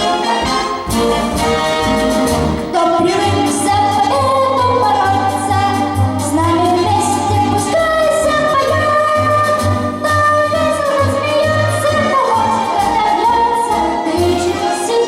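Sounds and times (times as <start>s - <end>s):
instrumental accompaniment with beat: 0.0s - 15.0s.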